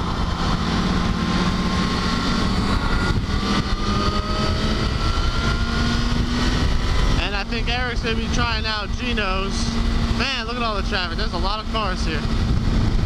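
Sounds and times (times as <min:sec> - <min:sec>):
motorcycle engine: 0:00.0 - 0:13.0
wind rush: 0:00.0 - 0:13.0.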